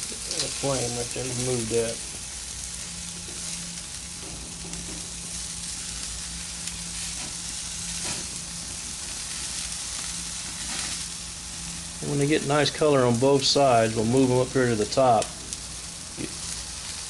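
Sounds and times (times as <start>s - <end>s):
chicken wings sizzling on grill: 0.0s - 17.0s.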